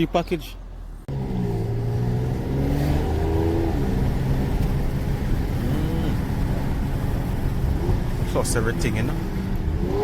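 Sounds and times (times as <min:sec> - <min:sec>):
road rumble: 0:00.0 - 0:10.0
car engine accelerating: 0:00.7 - 0:10.0.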